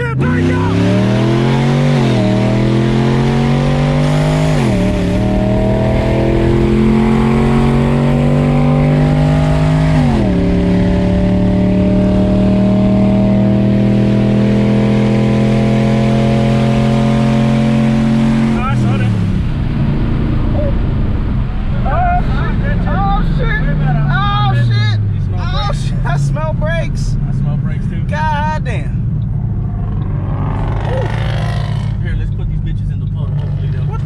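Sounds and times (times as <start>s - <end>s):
car engine accelerating hard: 0.0s - 34.0s.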